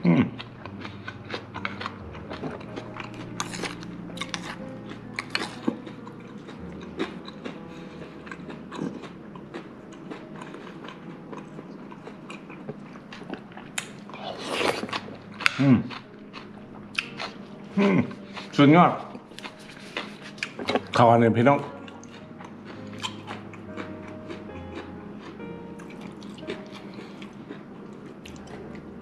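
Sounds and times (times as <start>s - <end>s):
person chewing crisp food: 0.0s - 29.0s.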